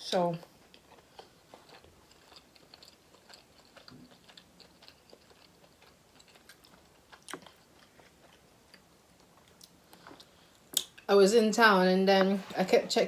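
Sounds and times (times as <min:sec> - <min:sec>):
chewing with mouth clicks: 0:00.4 - 0:11.1.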